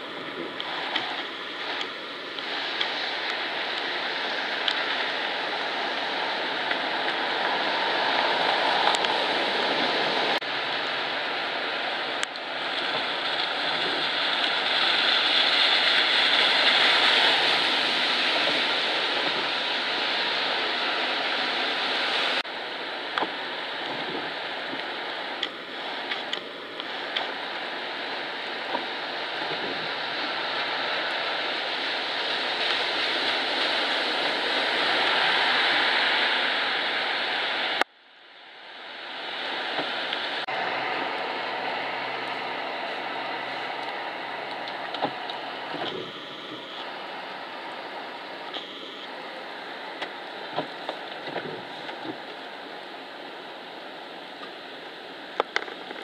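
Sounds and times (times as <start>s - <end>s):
river rushing in flood: 0.0s - 56.0s.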